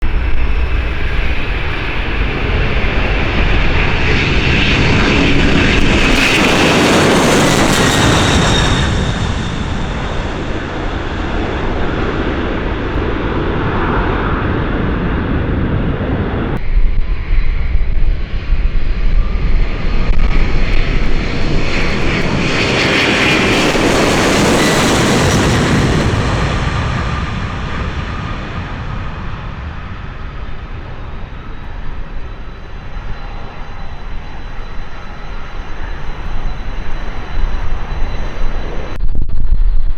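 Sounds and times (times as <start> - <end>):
jet engines passing: 0.0 - 39.1.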